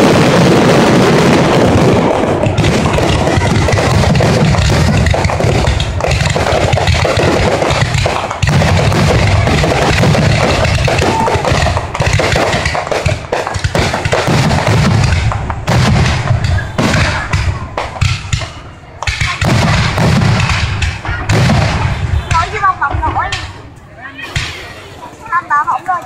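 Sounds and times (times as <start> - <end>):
fireworks barrage: 0.0 - 25.6
fireworks crackling: 0.0 - 26.0.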